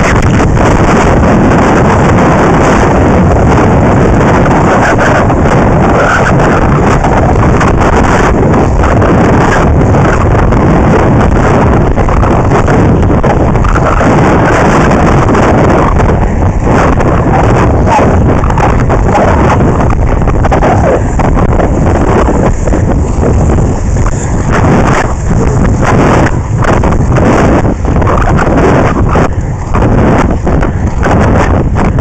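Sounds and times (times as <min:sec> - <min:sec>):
skate wheels rolling on asphalt: 0:00.0 - 0:32.0
wind buffeting microphone: 0:00.0 - 0:32.0.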